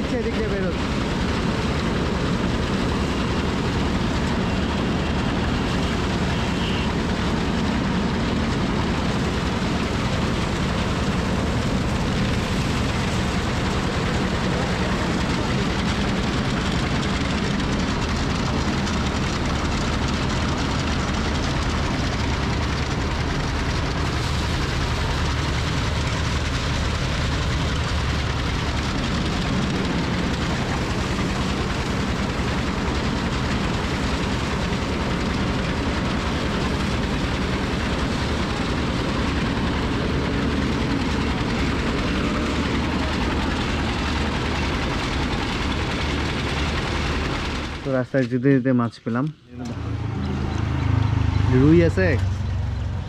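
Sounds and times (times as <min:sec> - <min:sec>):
thresher machine running: 0:00.0 - 0:53.0.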